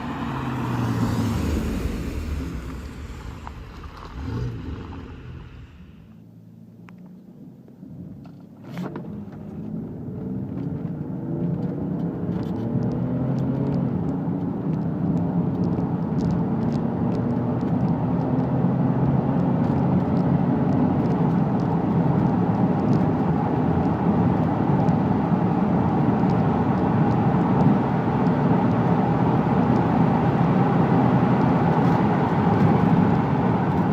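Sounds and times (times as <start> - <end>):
car engine accelerating: 0.0 - 7.2, 7.8 - 33.9.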